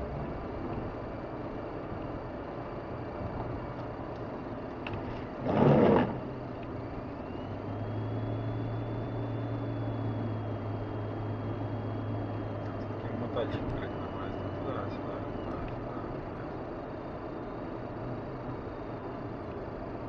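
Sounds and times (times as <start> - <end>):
car road and engine noise: 0.0 - 20.0
steady low hum: 0.0 - 20.0.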